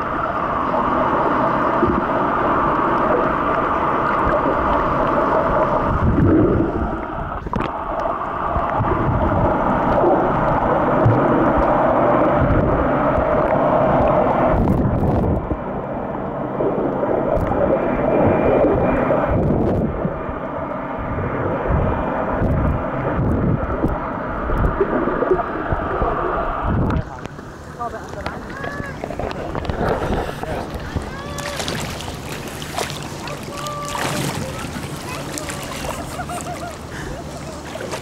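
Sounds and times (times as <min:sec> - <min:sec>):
faint steady drone: 0:00.0 - 0:38.0
underwater rumbling and gurgling: 0:00.0 - 0:38.0.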